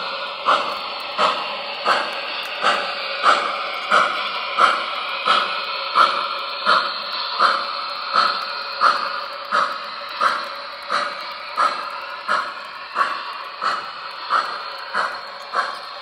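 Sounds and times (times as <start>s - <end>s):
model steam train chuffing: 0.0s - 16.0s
steady steam hiss: 0.0s - 16.0s.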